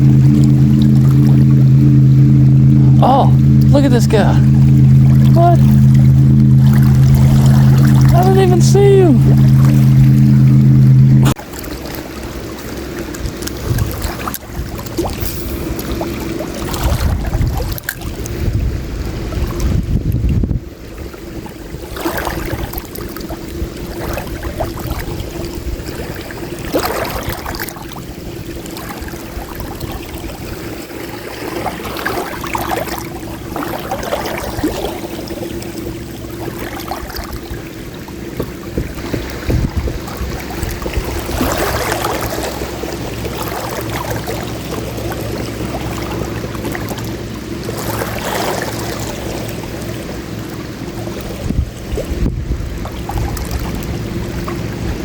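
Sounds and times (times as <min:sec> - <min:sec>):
steady low hum: 0:00.0 - 0:55.0
waves lapping and splashing: 0:00.0 - 0:55.0.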